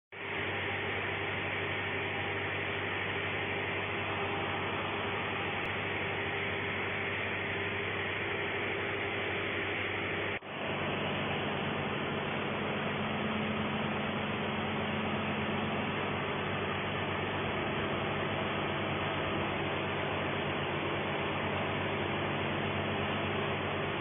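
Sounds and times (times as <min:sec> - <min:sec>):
heavy machinery humming: 0:00.2 - 0:24.0.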